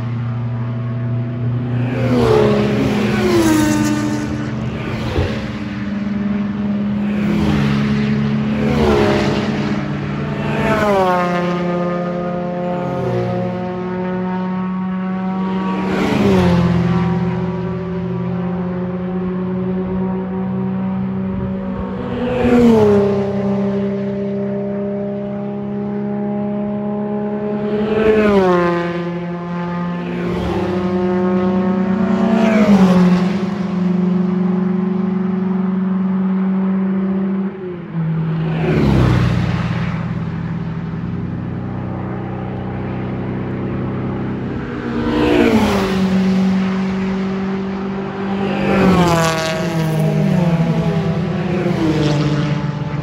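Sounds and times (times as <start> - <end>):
race car engines passing: 0.0 - 53.0.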